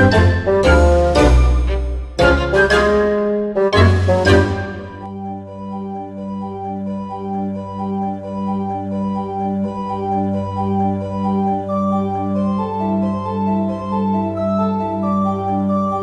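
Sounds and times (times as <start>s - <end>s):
organ-like keyboard music: 0.0s - 16.0s.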